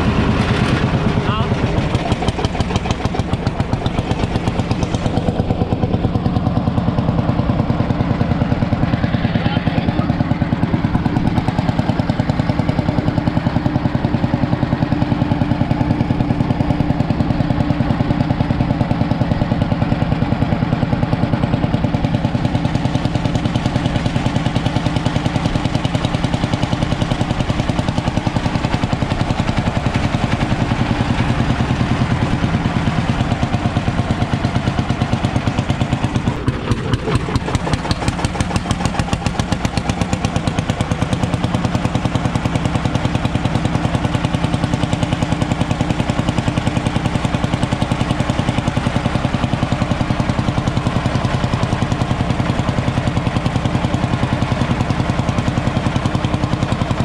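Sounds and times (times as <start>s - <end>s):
tractor engine exhaust pulses: 0.0s - 57.0s.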